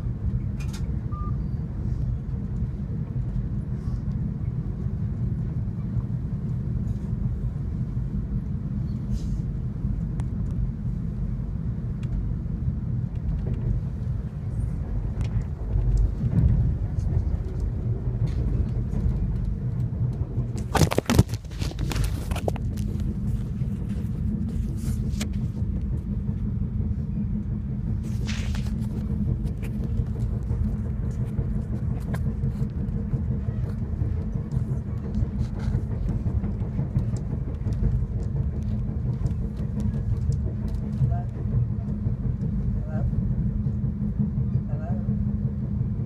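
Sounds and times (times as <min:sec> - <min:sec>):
train rumbling inside carriage: 0:00.0 - 0:46.0.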